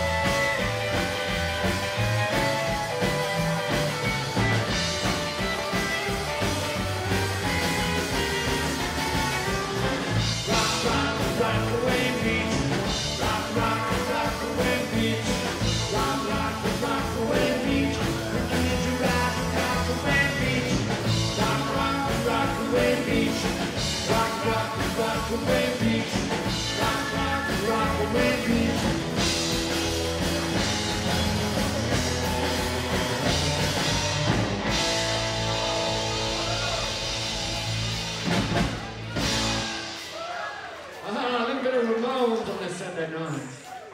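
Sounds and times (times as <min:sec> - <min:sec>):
rockabilly band playing live: 0:00.0 - 0:42.0.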